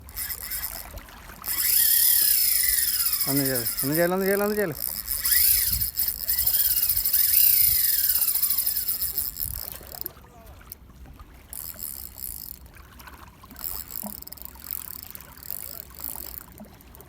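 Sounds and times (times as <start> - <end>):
fishing reel drag buzzing: 0.0 - 10.7, 11.5 - 17.0.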